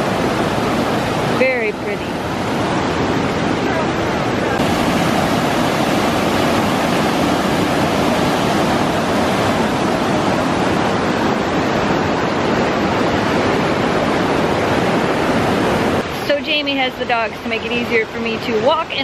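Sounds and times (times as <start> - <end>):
rushing white-water rapids: 0.0 - 19.0.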